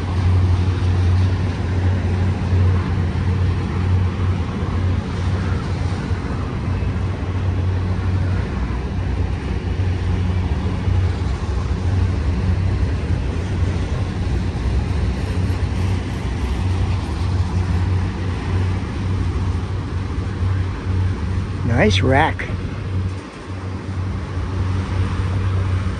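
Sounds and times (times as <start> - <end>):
freight train rumbling on rails: 0.0 - 25.9.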